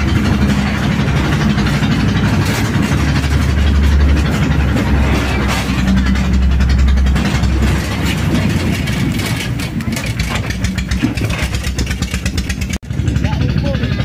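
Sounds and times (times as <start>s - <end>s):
rail trolley engine pulsing: 0.0s - 14.0s.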